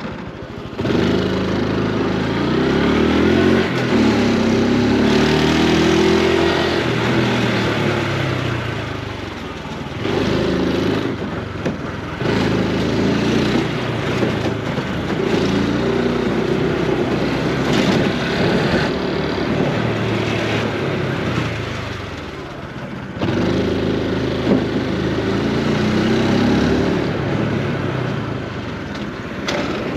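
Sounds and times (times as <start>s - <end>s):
motorcycle engine and exhaust: 0.0s - 29.9s.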